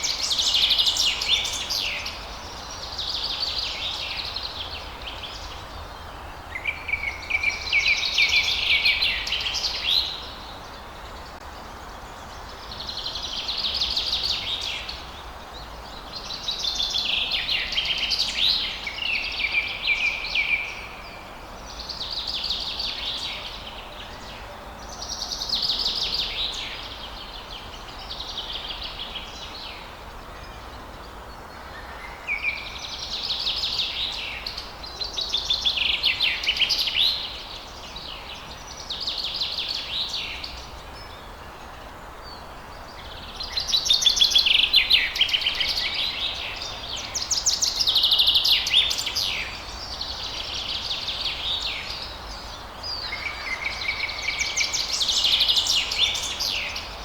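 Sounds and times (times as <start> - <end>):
background hiss: 0.0 - 57.0
songbirds trilling: 0.0 - 57.0.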